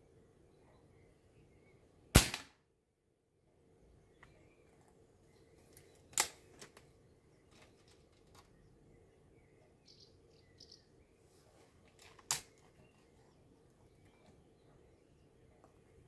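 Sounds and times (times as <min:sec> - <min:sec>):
birds chirping: 0:00.0 - 0:02.0, 0:03.6 - 0:16.0.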